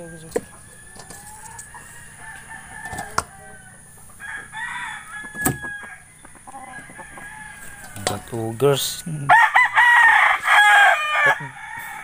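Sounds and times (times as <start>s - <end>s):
rooster crowing: 0.0s - 8.5s, 9.3s - 12.0s.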